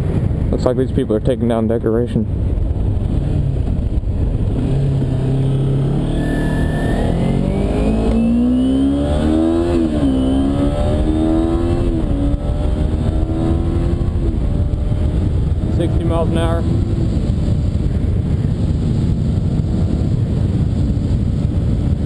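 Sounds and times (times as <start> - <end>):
wind and road noise: 0.0 - 22.0
motorcycle engine accelerating: 2.4 - 22.0.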